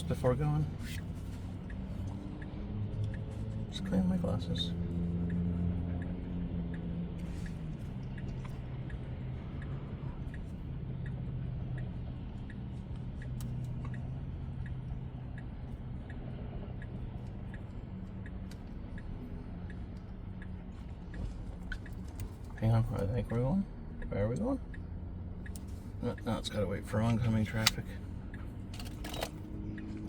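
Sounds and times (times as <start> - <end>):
turn signal ticking: 0.0 - 30.0.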